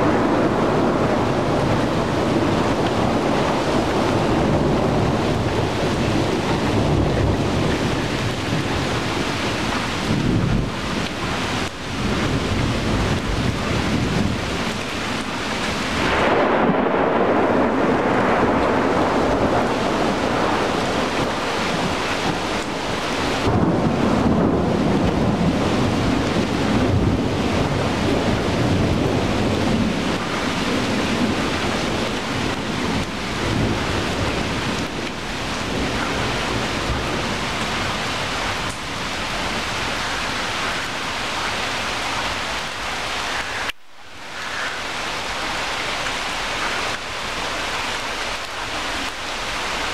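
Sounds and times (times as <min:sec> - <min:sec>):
thunder rolling: 0:00.0 - 0:42.0
heavy rain on leaves: 0:00.0 - 0:49.9.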